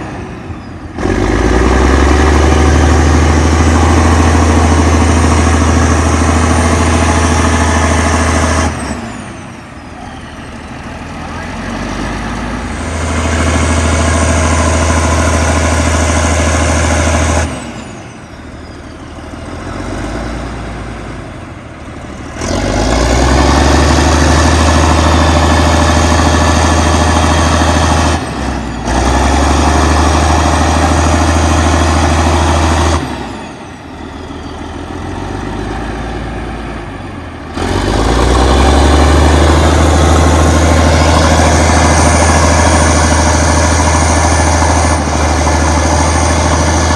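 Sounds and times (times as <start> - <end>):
bulldozer diesel engine droning: 0.0 - 46.9.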